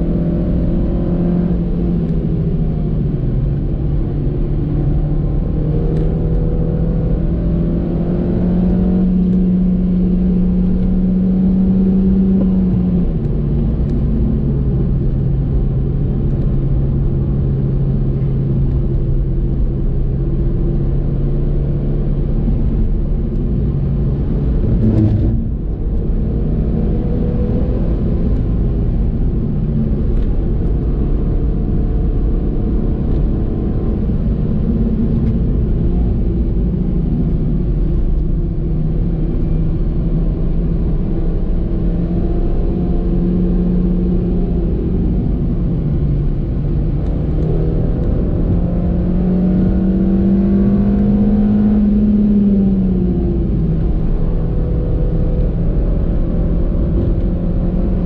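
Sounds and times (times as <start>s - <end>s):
car engine pulling hard: 0.0s - 58.0s
road and wind noise: 0.0s - 58.0s.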